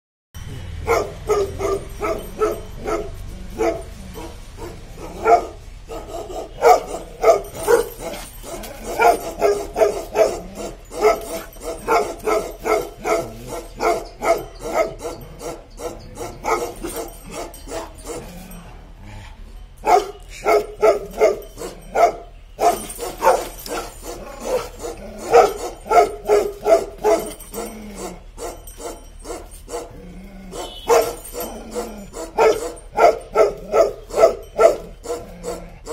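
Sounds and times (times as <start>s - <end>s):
dog barking: 0.5s - 18.5s, 19.8s - 35.9s.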